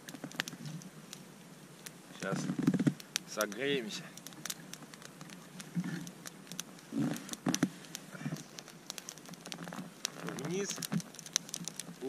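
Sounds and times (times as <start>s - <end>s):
campfire crackling: 0.0s - 12.0s
twigs being handled: 0.0s - 12.0s.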